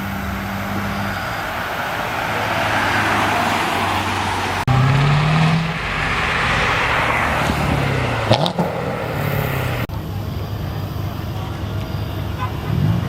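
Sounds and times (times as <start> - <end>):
car engine running under throttle: 0.0 - 13.0
sharp exhaust crack: 0.0 - 13.0.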